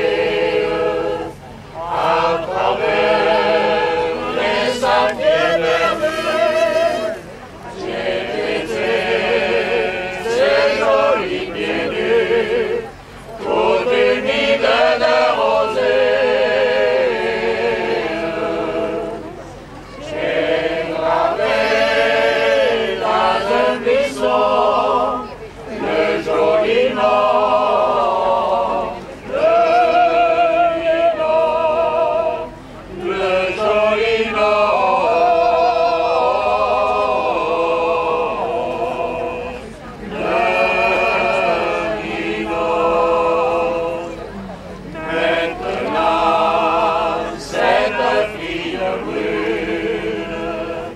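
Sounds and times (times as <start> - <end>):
choir singing folk song: 0.0 - 50.9.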